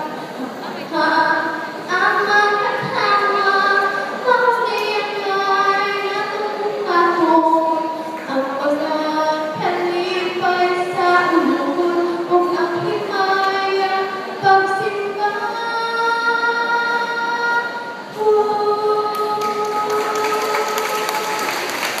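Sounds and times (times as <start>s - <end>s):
woman singing into a microphone: 0.0s - 21.6s
rushing crowd noise: 0.0s - 22.0s.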